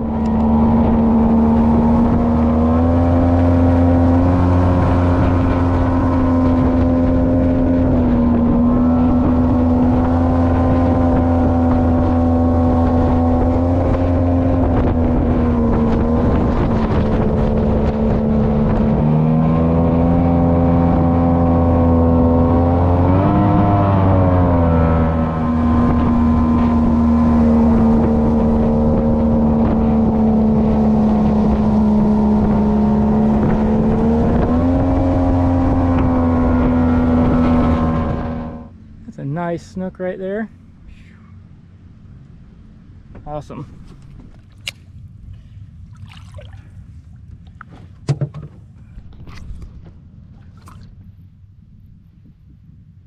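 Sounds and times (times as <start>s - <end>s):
wind on microphone: 0.0s - 38.8s, 43.0s - 53.0s
outboard motor running: 0.0s - 52.6s.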